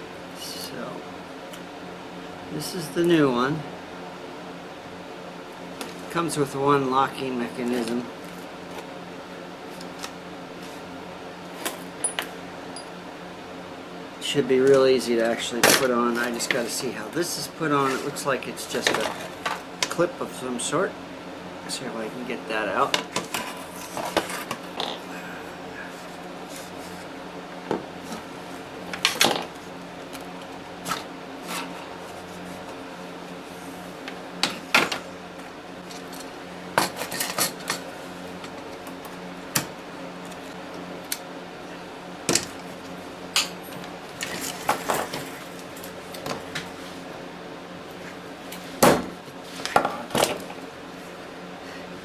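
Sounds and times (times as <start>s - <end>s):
space heaters humming: 0.0s - 52.0s.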